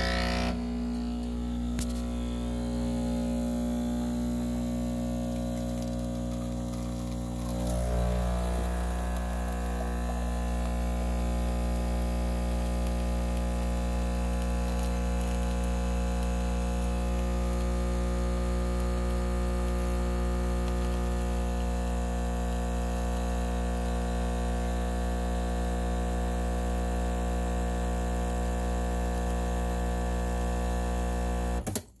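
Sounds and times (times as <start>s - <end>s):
espresso machine pump humming: 0.0s - 31.6s.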